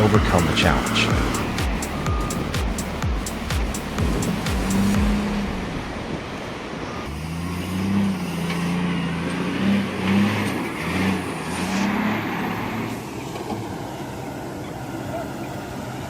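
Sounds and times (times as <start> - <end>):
heavy equipment engine revving: 0.0 - 16.0.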